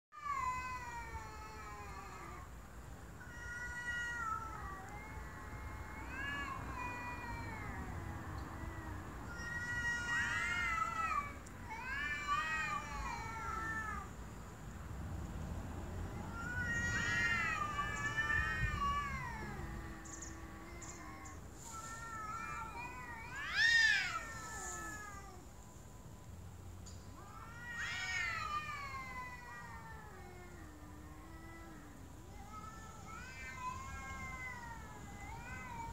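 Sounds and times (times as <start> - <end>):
cats yowling: 3.2 - 14.1, 16.1 - 25.5, 27.1 - 35.9.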